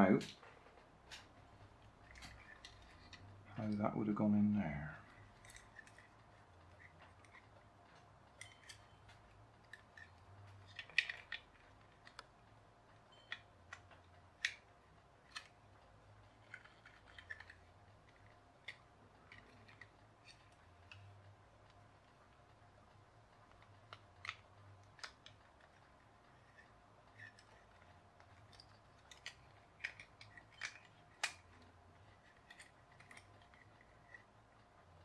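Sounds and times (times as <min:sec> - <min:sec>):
small gearbox turning: 0:01.9 - 0:03.9, 0:04.9 - 0:12.3, 0:12.9 - 0:21.4, 0:23.6 - 0:35.0
plastic building blocks clicking: 0:04.9 - 0:12.4, 0:13.1 - 0:35.0.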